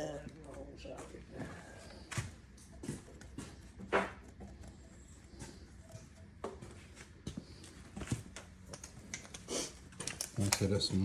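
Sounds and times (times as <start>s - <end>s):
light clicks and knocks of engine parts: 1.8s - 11.0s.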